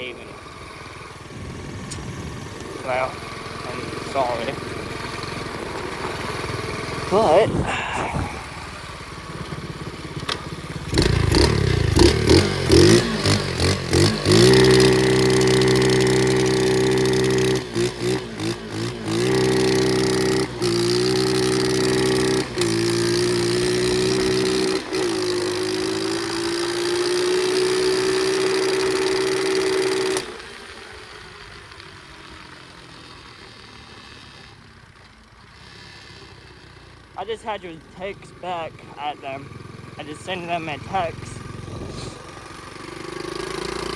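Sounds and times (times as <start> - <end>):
small motorcycle engine revving: 0.0 - 43.9.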